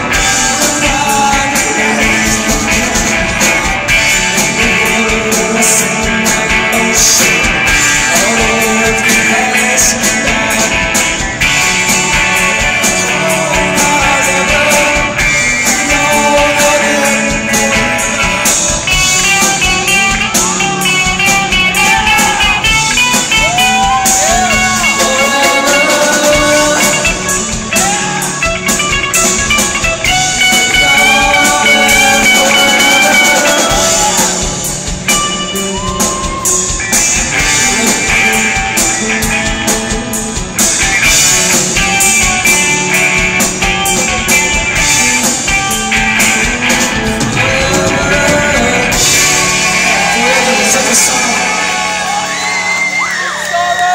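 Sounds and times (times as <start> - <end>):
drum kit: 0.0 - 53.9
electric guitars: 0.0 - 53.9
lead vocal melody: 0.0 - 53.9.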